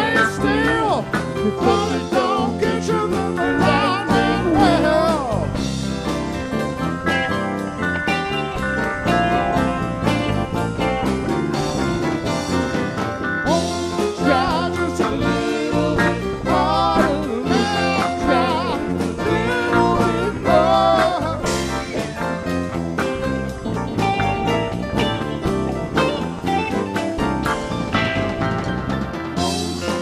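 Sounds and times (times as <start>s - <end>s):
country rock band playing: 0.0s - 30.0s.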